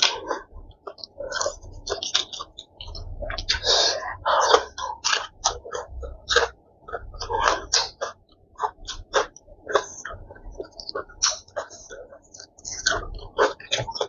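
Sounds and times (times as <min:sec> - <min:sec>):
chewing and crunching fried chicken: 0:00.0 - 0:14.0.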